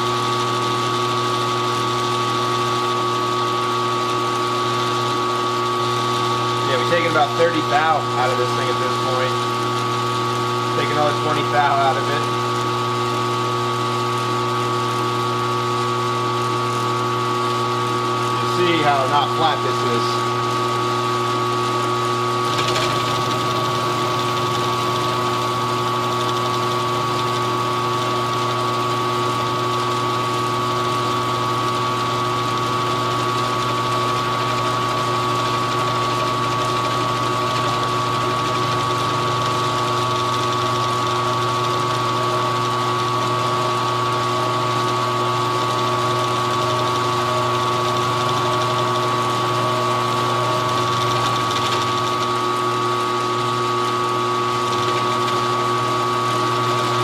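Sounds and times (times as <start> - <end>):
cutter whine: 0.0 - 57.0
milling machine motor hum: 0.0 - 57.0.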